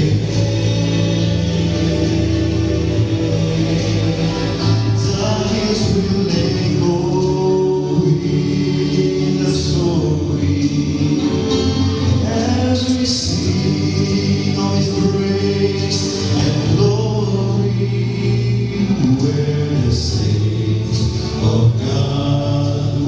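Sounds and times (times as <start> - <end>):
guitar accompaniment: 0.0 - 23.0
male quartet singing in harmony: 0.0 - 23.0.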